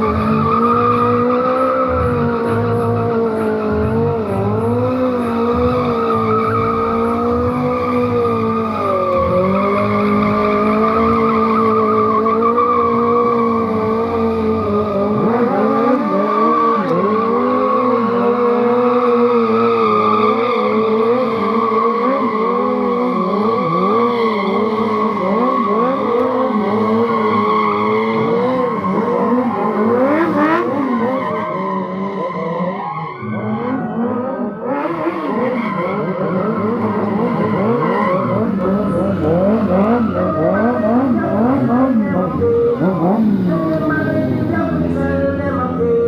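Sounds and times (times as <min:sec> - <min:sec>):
car engine noise: 0:00.0 - 0:46.0
car tyres squealing: 0:00.0 - 0:46.0.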